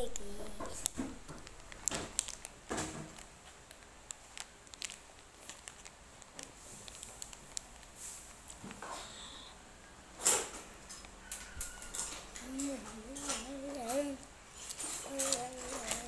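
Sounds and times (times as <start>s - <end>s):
plastic wrapper crinkling: 0.0s - 8.8s, 10.9s - 16.0s.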